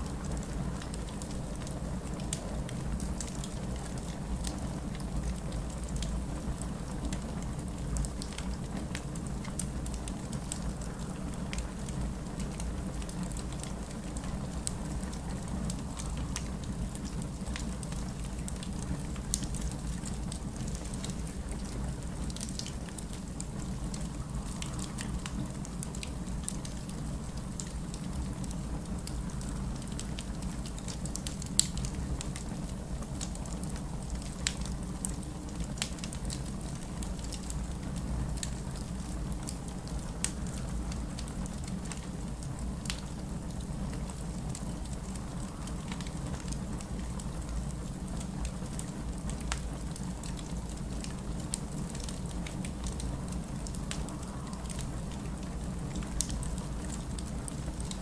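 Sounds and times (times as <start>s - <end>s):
low rumble of fire: 0.0s - 58.0s
wood fire crackling: 0.0s - 58.0s.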